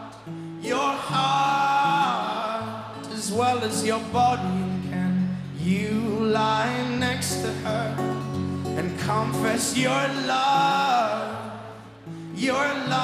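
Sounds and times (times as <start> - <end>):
man singing long notes: 0.0 - 8.0, 8.8 - 11.7
acoustic guitar: 0.0 - 13.0.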